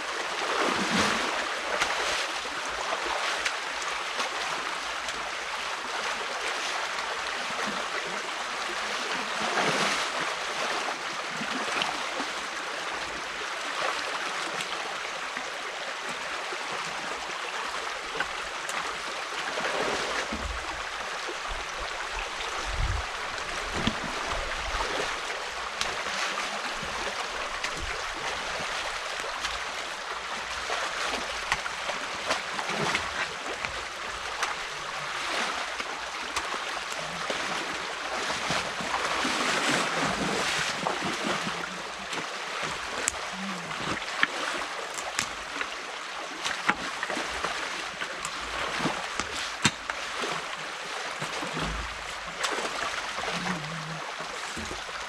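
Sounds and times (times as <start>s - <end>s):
stream water rushing: 0.0s - 55.0s
water splashes: 0.0s - 55.0s.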